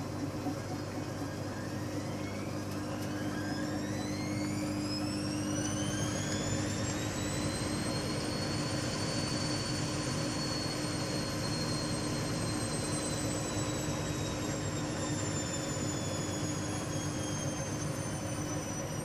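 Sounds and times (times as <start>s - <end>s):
machine whine rising in pitch: 0.0s - 19.0s.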